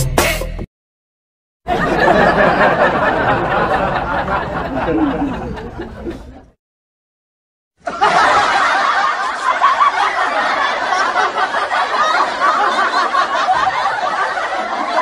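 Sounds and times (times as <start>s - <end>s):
people snickering and chuckling: 1.7s - 6.5s, 7.8s - 15.0s.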